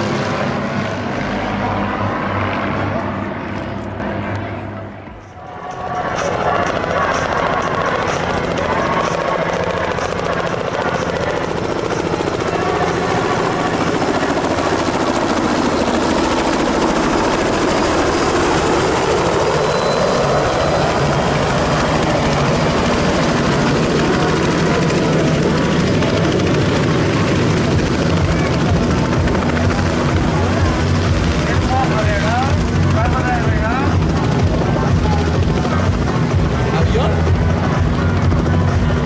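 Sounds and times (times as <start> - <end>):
helicopter rotor and turbine drone: 0.0 - 39.0.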